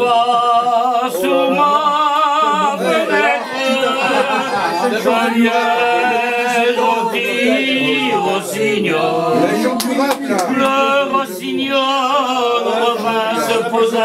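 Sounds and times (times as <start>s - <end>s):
voices singing a cappella: 0.0s - 14.0s.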